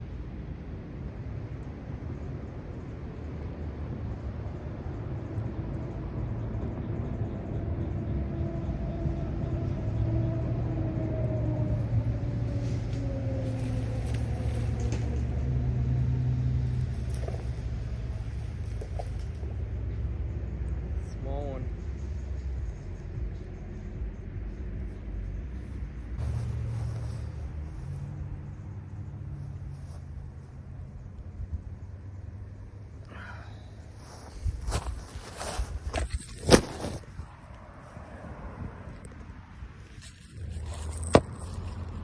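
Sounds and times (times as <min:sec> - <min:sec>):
engine humming: 0:04.3 - 0:42.0.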